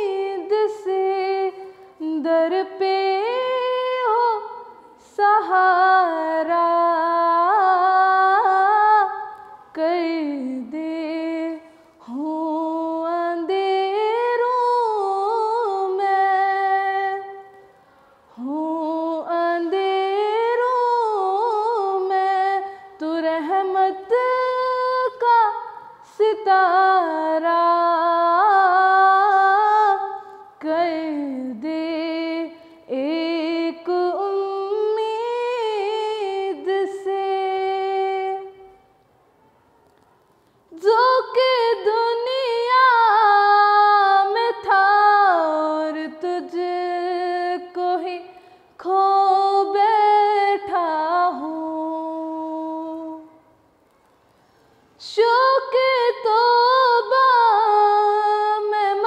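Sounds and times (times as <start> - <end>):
girl singing unaccompanied: 0.0 - 39.0, 40.7 - 53.6, 55.0 - 59.0.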